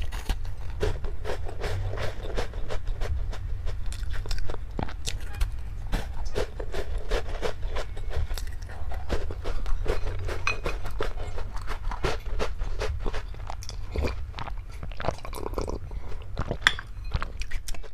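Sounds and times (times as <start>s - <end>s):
chewing and crunching food: 0.0s - 17.9s
steady low hum: 0.0s - 17.9s.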